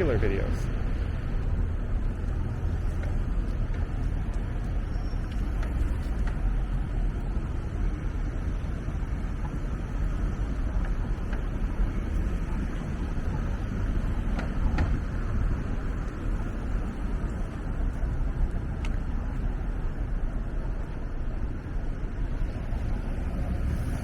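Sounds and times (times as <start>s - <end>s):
passing traffic rumble: 0.0s - 24.0s.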